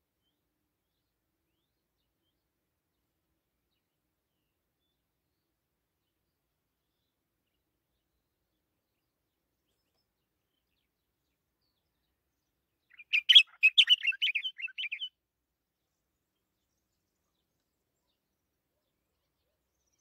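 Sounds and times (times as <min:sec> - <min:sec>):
songbird chirping phrase: 0:00.2 - 0:20.0.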